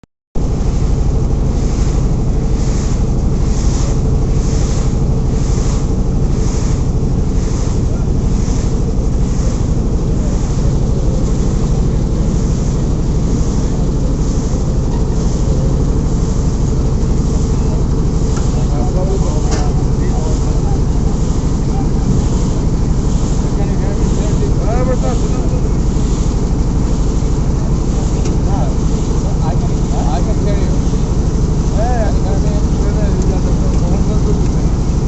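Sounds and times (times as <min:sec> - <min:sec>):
motorboat engine running: 0:00.3 - 0:35.0.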